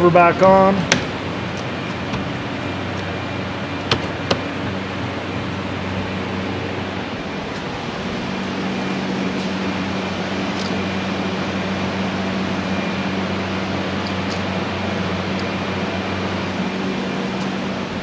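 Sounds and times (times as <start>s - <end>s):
fan humming and hissing: 0.0s - 18.0s.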